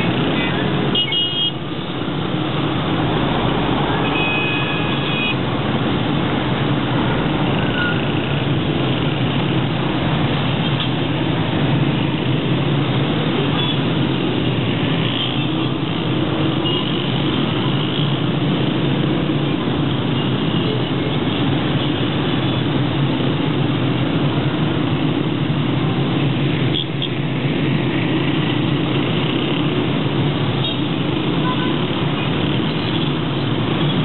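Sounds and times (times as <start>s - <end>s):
dense city traffic roar: 0.0s - 34.0s.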